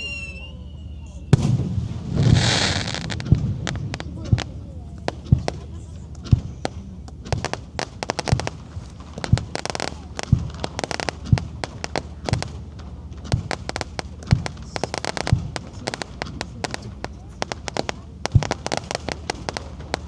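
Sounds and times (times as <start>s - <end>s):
fireworks booming: 0.0s - 20.0s
fireworks crackling: 0.0s - 20.0s.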